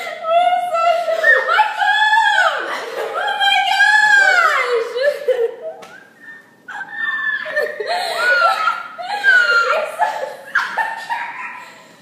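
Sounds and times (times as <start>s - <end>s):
girls laughing: 0.0s - 12.0s.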